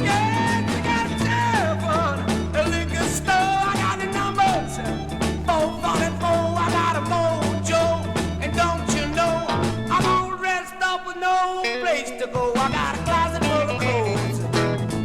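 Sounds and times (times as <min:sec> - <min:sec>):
bass: 0:00.0 - 0:10.5, 0:12.4 - 0:15.0
lead instrument bending melodic lines: 0:00.0 - 0:10.6, 0:12.4 - 0:15.0
drums: 0:00.0 - 0:15.0.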